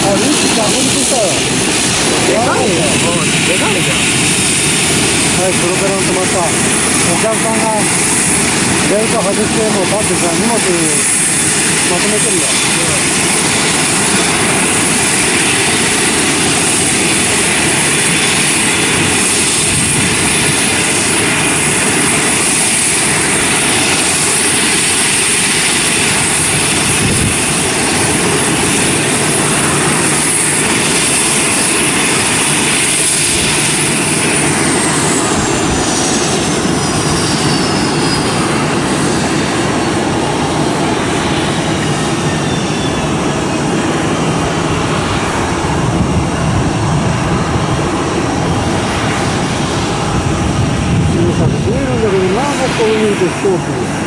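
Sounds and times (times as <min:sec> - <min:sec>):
turboprop engines whining: 0:00.0 - 0:54.0.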